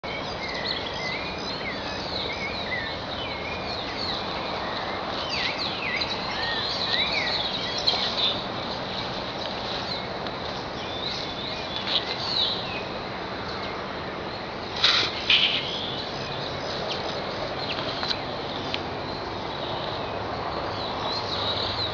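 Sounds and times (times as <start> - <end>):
birds chirping and singing: 0.0 - 21.9.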